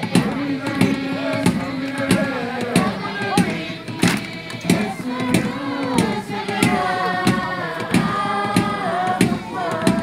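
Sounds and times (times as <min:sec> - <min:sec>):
group of voices singing: 0:00.0 - 0:10.0
steady drum beat: 0:00.0 - 0:10.0.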